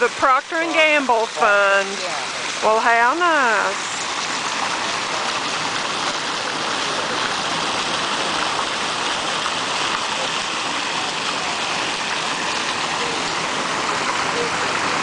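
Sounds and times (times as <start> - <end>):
fountain splashing: 0.0 - 15.0.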